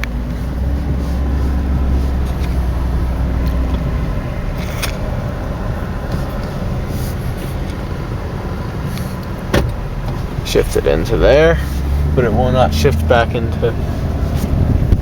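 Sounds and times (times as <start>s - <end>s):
gear shifter clicks: 0.0s - 12.2s
car engine idling: 0.0s - 15.0s.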